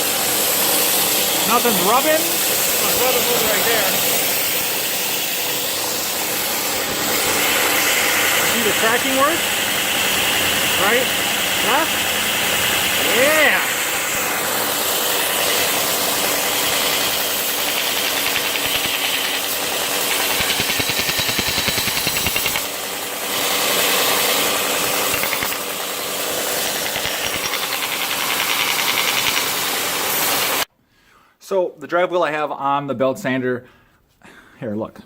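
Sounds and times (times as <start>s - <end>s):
belt grinder running: 0.0s - 30.7s.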